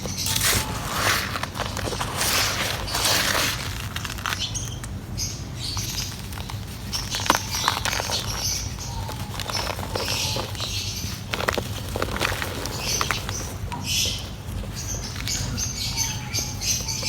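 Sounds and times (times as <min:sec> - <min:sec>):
dry mud crumbling: 0:00.0 - 0:17.0.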